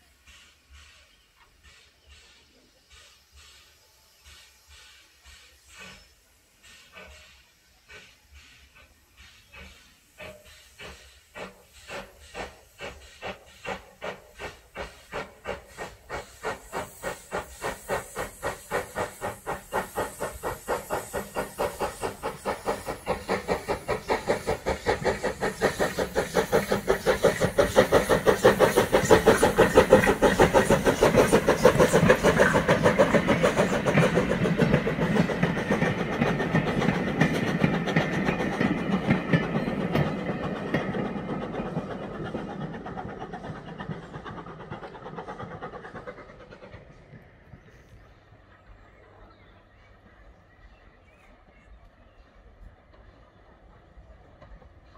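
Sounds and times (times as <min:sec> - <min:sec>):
steam engine exhaust beats: 0:00.0 - 0:49.2
steam hissing: 0:00.0 - 0:49.2.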